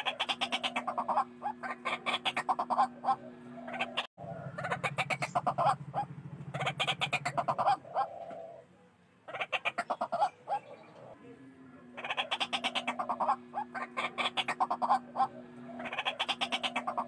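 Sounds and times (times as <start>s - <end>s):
waterhen clucking calls: 0.0s - 11.2s, 11.9s - 17.0s.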